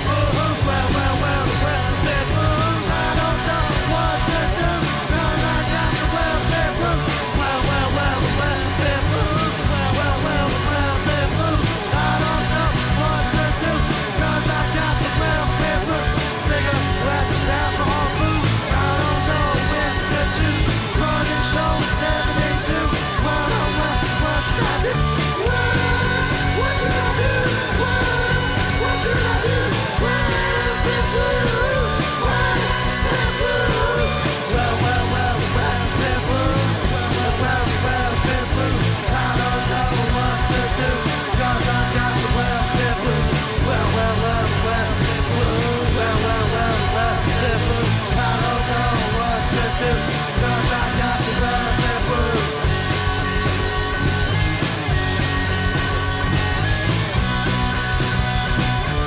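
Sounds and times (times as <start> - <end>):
punk rock song with shouted vocal: 0.0 - 59.0.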